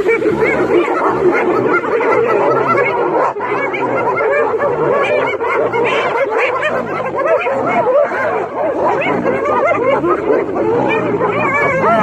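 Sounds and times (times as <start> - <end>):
hyenas giggling and whooping: 0.0 - 12.0.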